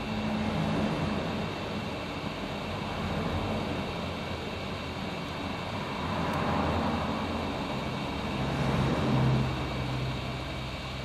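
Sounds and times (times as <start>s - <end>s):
hot air rework station blowing: 0.0s - 11.0s.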